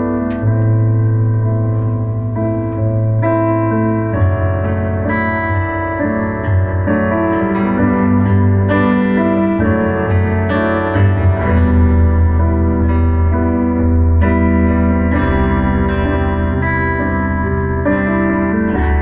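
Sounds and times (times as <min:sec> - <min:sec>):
electric keyboard chords: 0:00.0 - 0:19.0.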